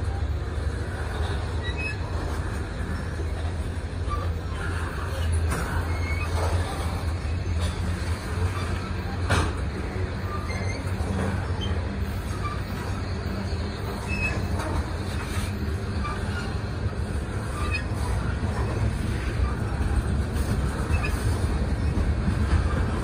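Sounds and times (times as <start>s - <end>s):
rumble of steel wheels on rail: 0.0s - 23.0s.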